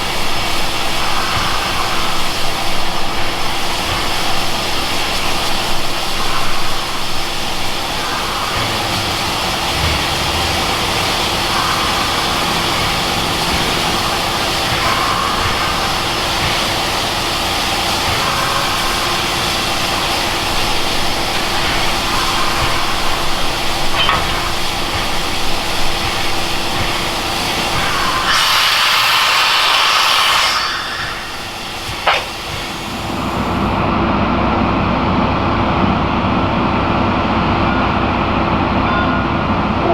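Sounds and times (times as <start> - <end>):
steam hiss: 0.0 - 34.0
steam train rumbling on rails: 0.0 - 39.9.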